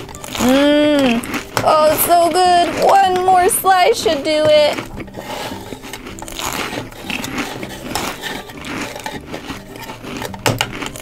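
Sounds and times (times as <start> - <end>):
crunching chewing sounds: 0.0 - 11.0.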